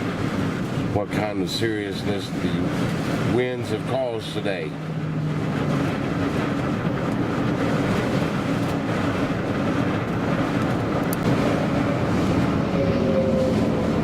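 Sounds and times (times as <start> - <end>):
strong wind: 0.0 - 14.0
vehicle engine and road noise: 0.0 - 14.0.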